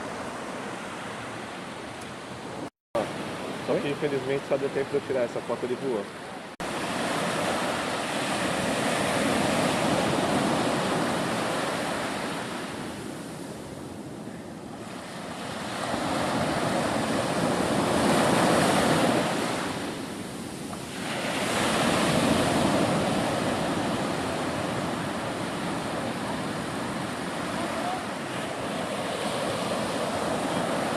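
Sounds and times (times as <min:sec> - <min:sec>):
choppy sea water: 0:00.0 - 0:05.2, 0:05.8 - 0:30.9
wind: 0:00.0 - 0:30.9.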